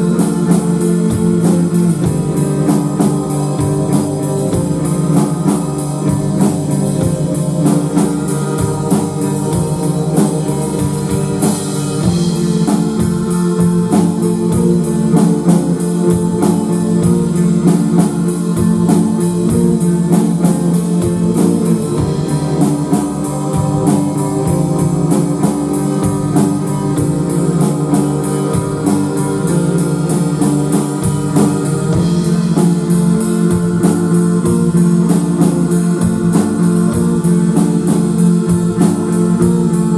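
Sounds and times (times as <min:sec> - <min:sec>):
drum kit beat: 0:00.0 - 0:39.9
electric guitar chords: 0:00.0 - 0:39.9
keyboard chords: 0:00.0 - 0:39.9.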